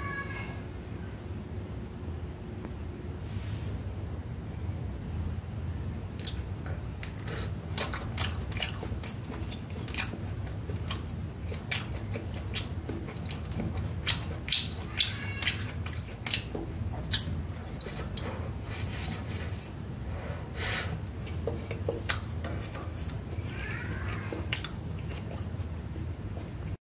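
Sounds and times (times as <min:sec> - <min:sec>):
steady low hum: 0:00.0 - 0:26.8.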